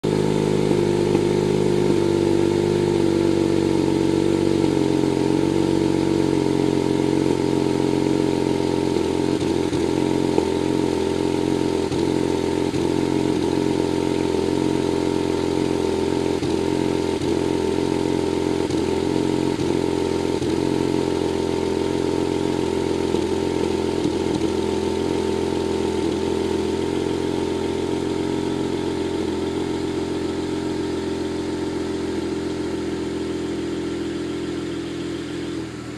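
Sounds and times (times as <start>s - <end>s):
car engine idling with stumble: 0.0s - 35.9s.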